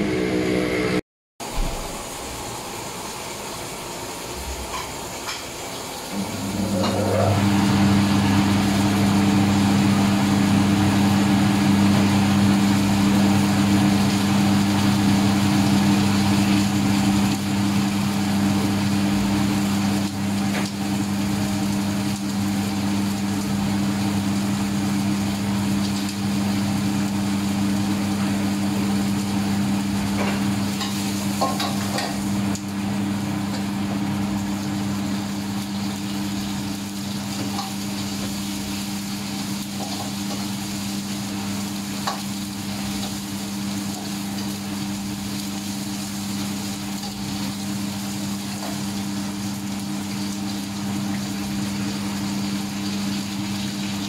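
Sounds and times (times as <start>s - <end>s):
loud low mechanical hum: 0.0s - 54.0s
food sizzling in hot oil: 1.4s - 54.0s.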